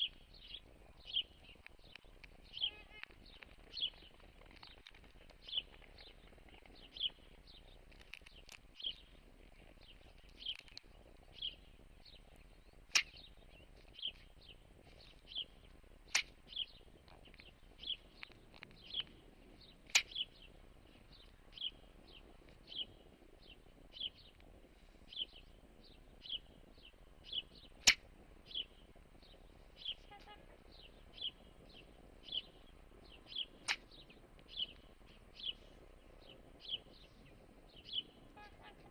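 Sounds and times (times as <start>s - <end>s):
sharp clicks: 0.0s - 23.2s, 27.2s - 38.8s
bird chirping: 0.0s - 38.9s.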